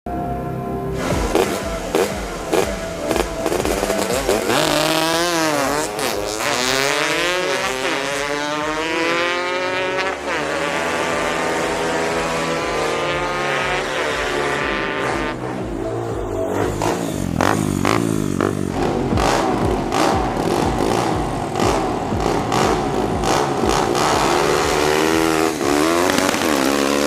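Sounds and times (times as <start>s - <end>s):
motorcycle engines revving: 0.9s - 27.0s
motorcycles passing by: 0.9s - 27.0s.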